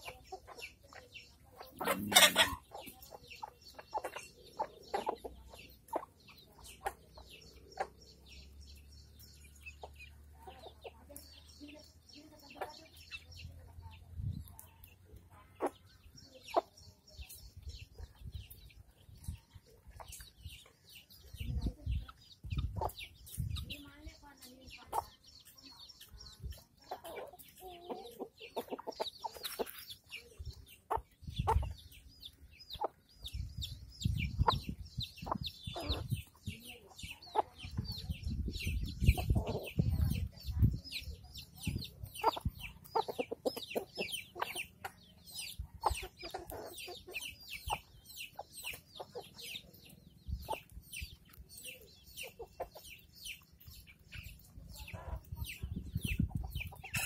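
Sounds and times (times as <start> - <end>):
hen clucking: 0.0 - 8.4, 9.6 - 57.0
chicks peeping: 0.0 - 57.0.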